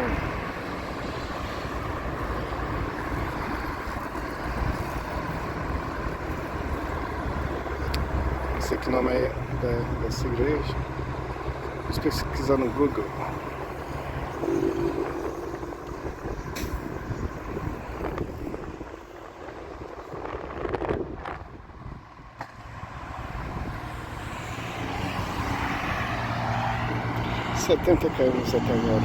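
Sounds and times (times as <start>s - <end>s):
wind rumble on microphone: 0.0s - 8.6s, 9.4s - 29.0s
cars and trucks passing: 0.0s - 29.0s.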